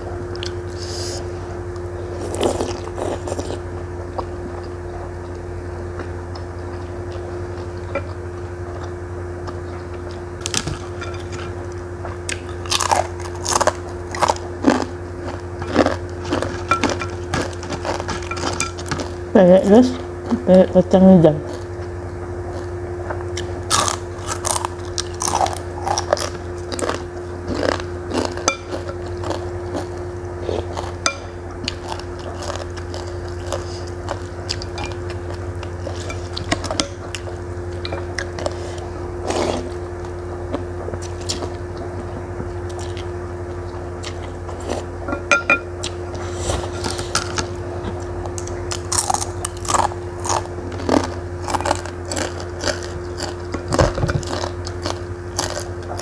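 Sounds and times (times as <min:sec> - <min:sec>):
steady low hum: 0:00.0 - 0:56.0
chewing crisp fried food: 0:00.3 - 0:19.3, 0:21.4 - 0:45.0, 0:45.8 - 0:56.0.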